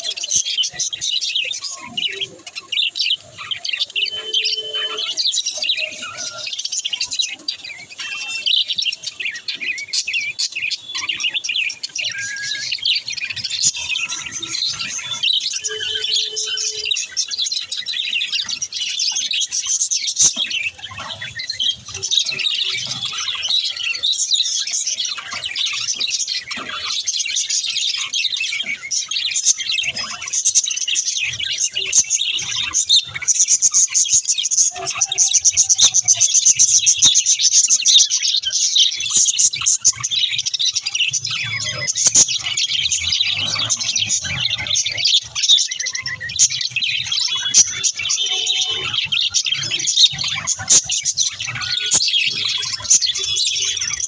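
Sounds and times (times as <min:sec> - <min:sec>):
budgerigars chirping and chattering: 0:00.0 - 0:54.0.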